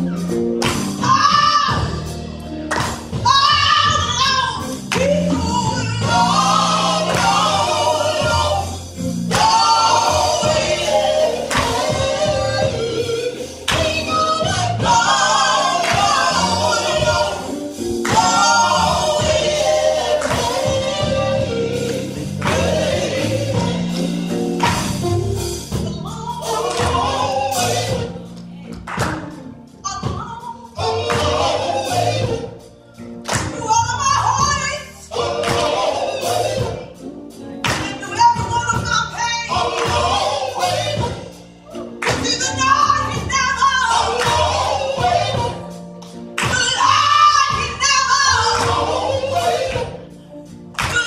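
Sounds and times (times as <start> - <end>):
band with drums and bass: 0.0 - 51.0
woman singing gospel: 0.9 - 2.2, 2.9 - 24.8, 25.7 - 29.2, 29.8 - 32.6, 33.3 - 50.1, 50.7 - 51.0.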